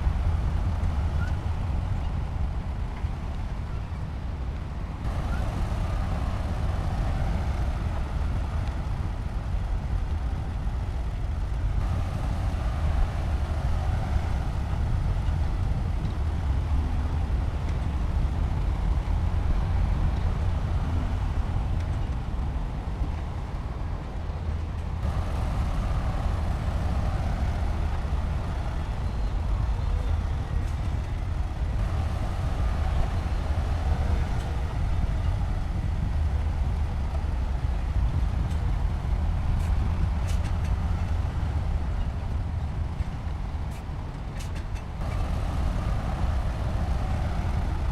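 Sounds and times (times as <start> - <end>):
bulldozer diesel engine rumbling: 0.0 - 24.1, 24.9 - 47.9.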